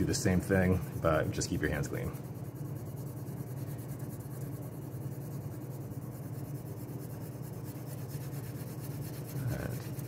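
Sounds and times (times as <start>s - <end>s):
pencil shading on paper: 0.0s - 10.0s.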